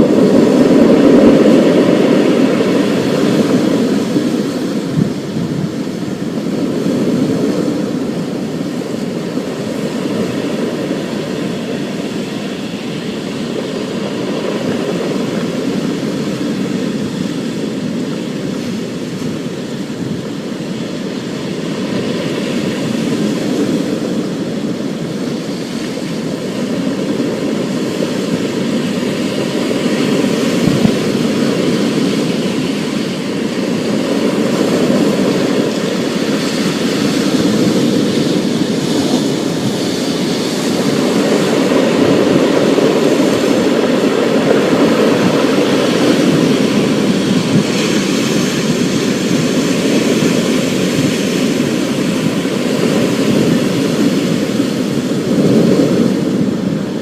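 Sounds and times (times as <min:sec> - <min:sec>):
rain and storm rumble: 0:00.0 - 0:57.0.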